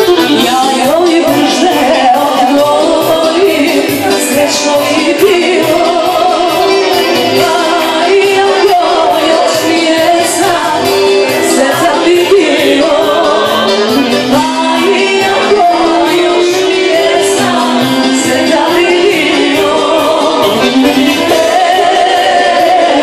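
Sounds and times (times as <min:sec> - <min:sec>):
loud amplified music with beat: 0:00.0 - 0:23.0
woman singing into a microphone: 0:00.0 - 0:23.0.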